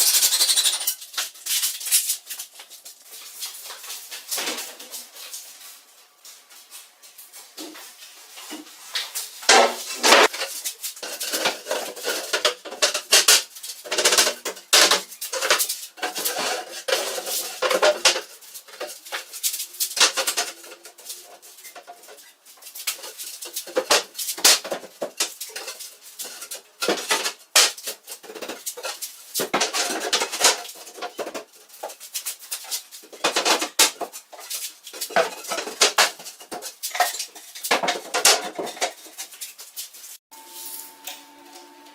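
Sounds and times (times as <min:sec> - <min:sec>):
hard objects clinking and clattering: 0:00.0 - 0:40.2.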